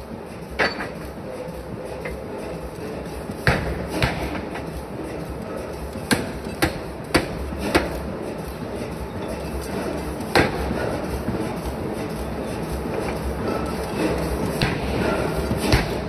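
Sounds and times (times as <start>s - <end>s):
forging press humming: 0.0s - 16.0s.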